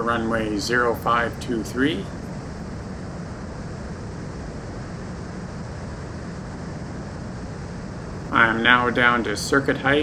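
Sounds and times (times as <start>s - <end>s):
light aircraft engine drone: 0.0s - 10.0s.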